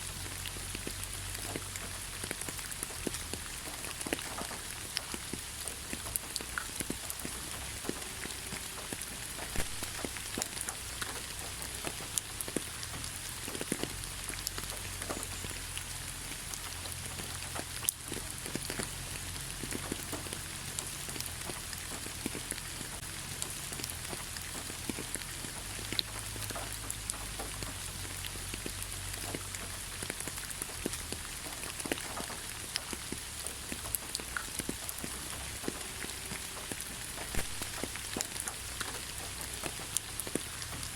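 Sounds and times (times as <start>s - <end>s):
rain hiss: 0.0s - 40.9s
raindrops pattering: 0.0s - 40.9s.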